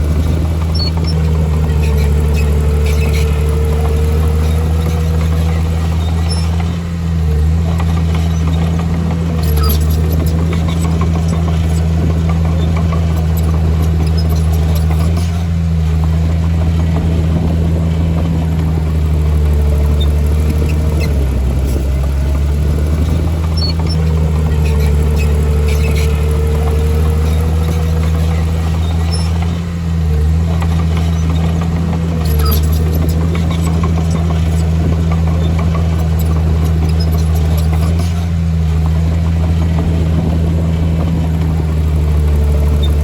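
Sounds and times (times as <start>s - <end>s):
bulldozer diesel engine running: 0.0s - 43.0s
clicks and rattles: 7.6s - 43.0s.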